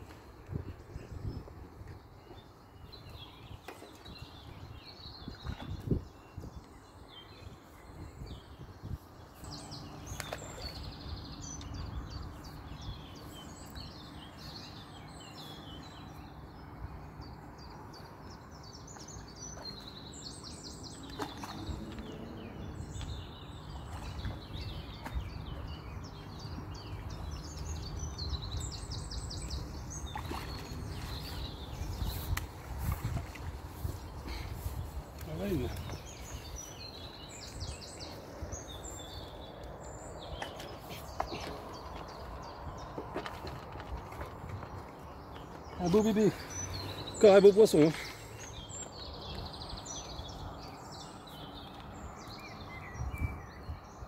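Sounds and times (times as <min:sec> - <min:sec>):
wind rumble on microphone: 0:00.0 - 0:45.7, 0:48.6 - 0:54.0
small birds singing and chirping: 0:00.0 - 0:54.0.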